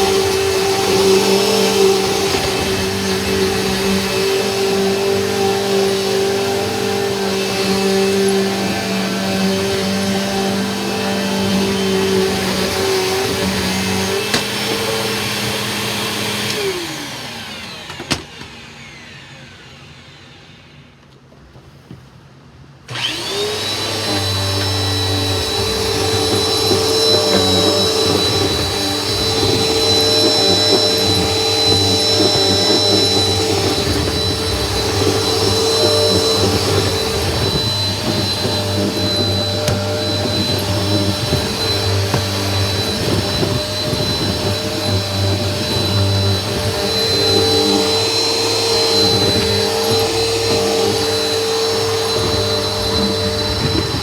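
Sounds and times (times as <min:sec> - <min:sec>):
vacuum cleaner running: 0:00.0 - 0:21.0, 0:22.8 - 0:54.0.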